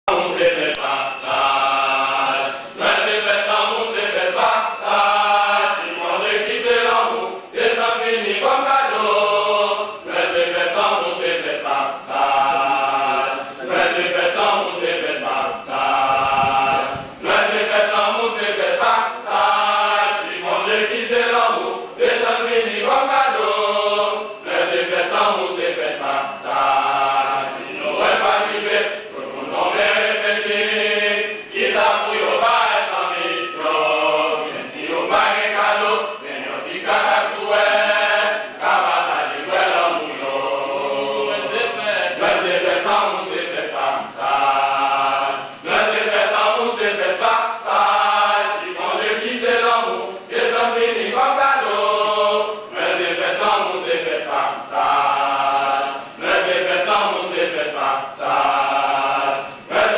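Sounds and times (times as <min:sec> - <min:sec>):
men's choir singing: 0:00.1 - 0:59.9.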